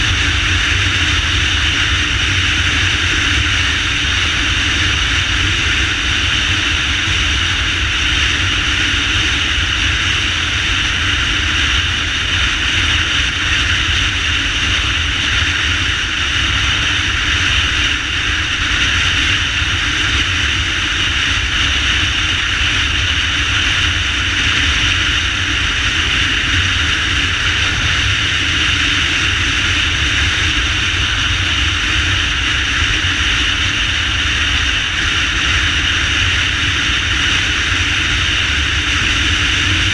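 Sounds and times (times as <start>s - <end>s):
low motorcycle engine rumble: 0.0s - 39.9s
wind rush over microphone: 0.0s - 39.9s.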